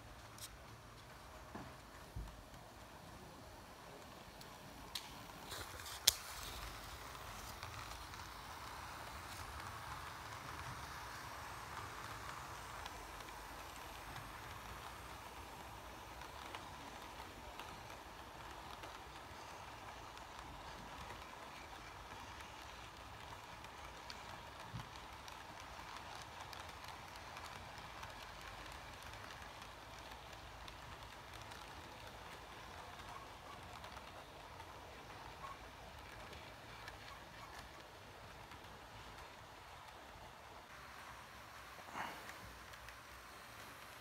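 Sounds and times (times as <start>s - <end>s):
model train hum and rumble: 0.0s - 44.0s
wheels clicking on rails: 0.0s - 44.0s.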